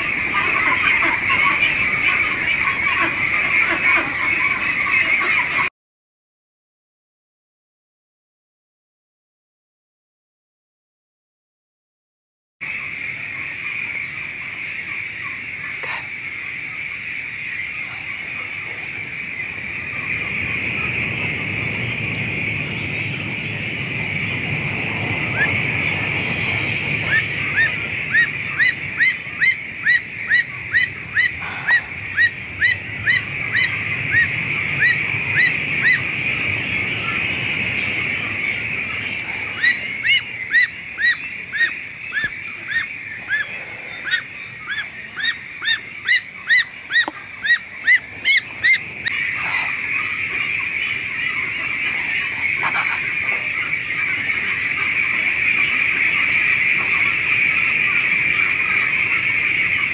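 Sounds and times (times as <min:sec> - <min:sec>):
duckling peeping: 0:00.0 - 0:05.7, 0:12.7 - 0:59.9
many ducks calling: 0:00.0 - 0:05.7, 0:12.6 - 0:59.9.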